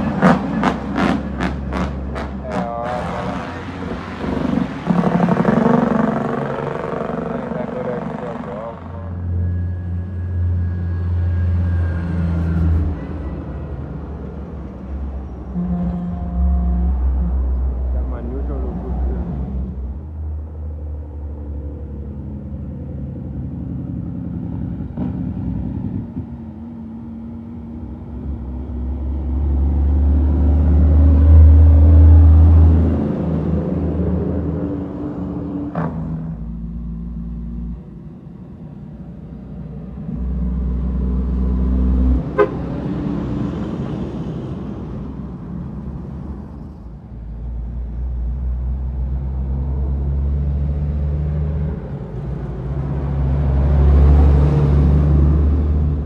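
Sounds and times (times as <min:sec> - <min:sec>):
dump truck diesel engines passing: 0:00.0 - 0:56.0.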